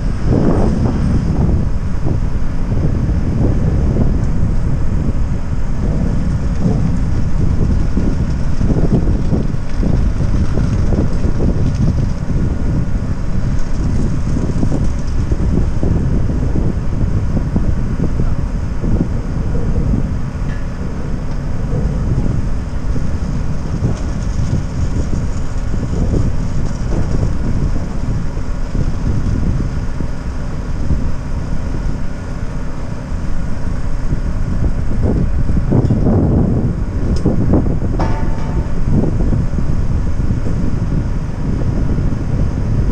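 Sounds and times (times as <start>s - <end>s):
faint steady hum: 0.0s - 42.9s
wind buffeting microphone: 0.0s - 42.9s.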